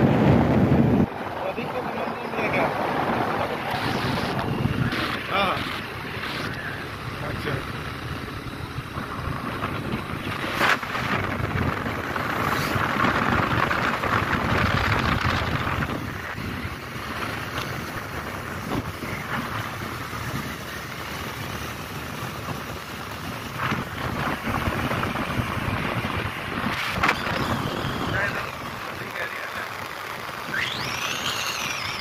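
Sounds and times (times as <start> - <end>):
vehicle road and engine noise: 0.0 - 32.0
wind rushing over microphone: 0.0 - 32.0.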